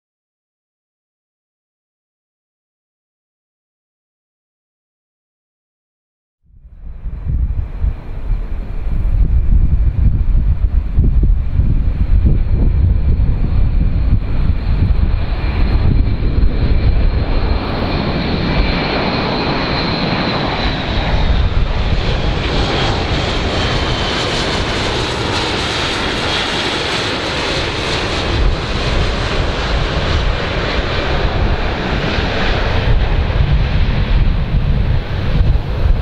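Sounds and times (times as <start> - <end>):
turboprop aircraft flying low: 6.5 - 36.0.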